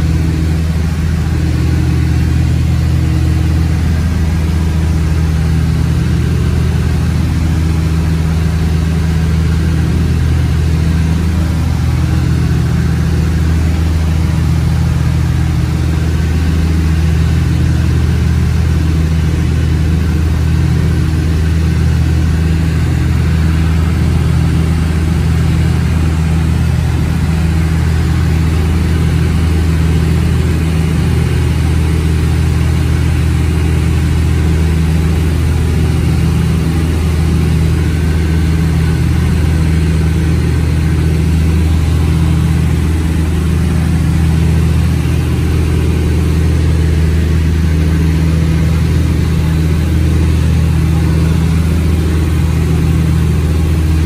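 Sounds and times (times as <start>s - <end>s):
propeller engines droning: 0.0s - 54.0s.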